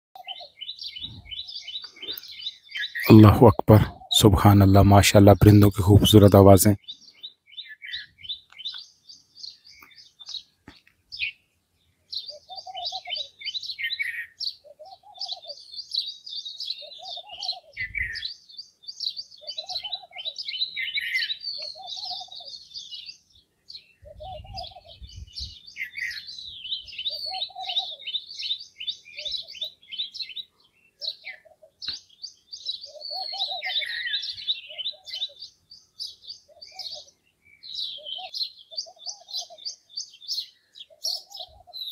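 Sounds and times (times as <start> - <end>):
low bird call: 0.2 - 8.9, 12.1 - 41.9
small birds chirping: 0.2 - 41.9.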